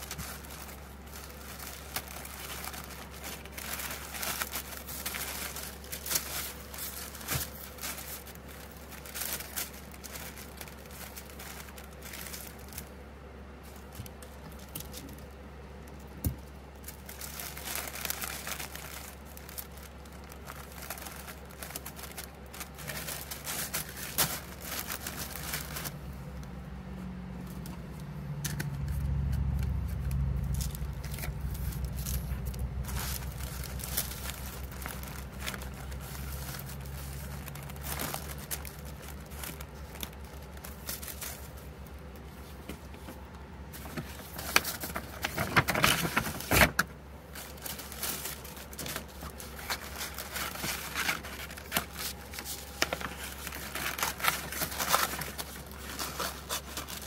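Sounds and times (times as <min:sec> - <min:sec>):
tissue paper crinkling: 0:00.0 - 0:26.4, 0:28.5 - 0:57.0
low engine rumble: 0:00.0 - 0:57.0.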